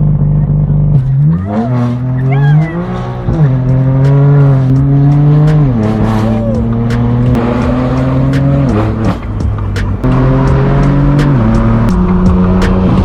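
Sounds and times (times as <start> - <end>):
car engine droning: 0.0 - 13.0
exhaust pops: 0.0 - 13.0.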